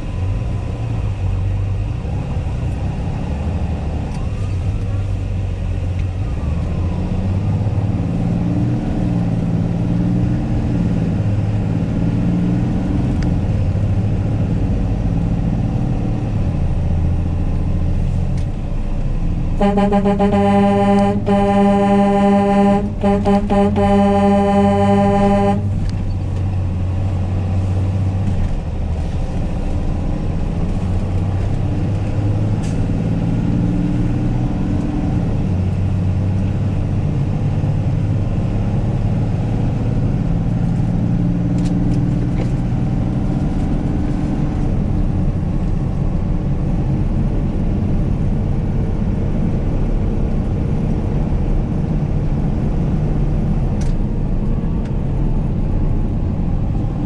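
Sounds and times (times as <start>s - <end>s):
road noise: 0.0s - 57.0s
truck diesel engine shifting gears: 0.0s - 57.0s.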